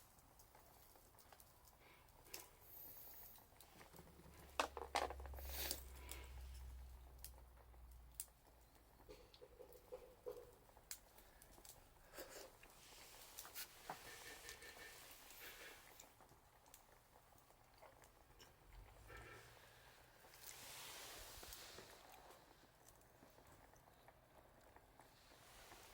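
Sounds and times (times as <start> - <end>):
bonfire crackling: 0.0 - 25.9.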